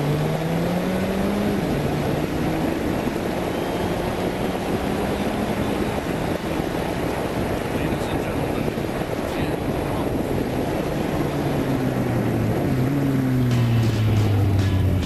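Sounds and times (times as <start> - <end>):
wind and road rush: 0.0 - 15.0.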